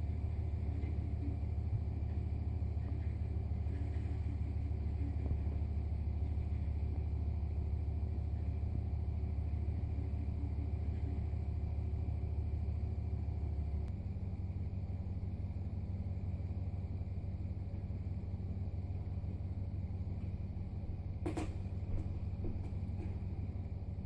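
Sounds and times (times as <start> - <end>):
low rumbling hum: 0.0 - 24.0.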